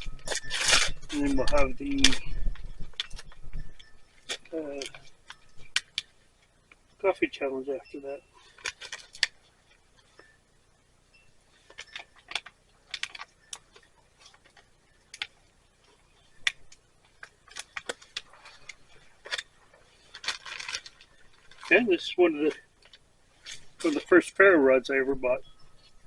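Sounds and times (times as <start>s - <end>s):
gear being handled: 0.0s - 6.2s, 8.3s - 10.4s, 11.5s - 24.2s.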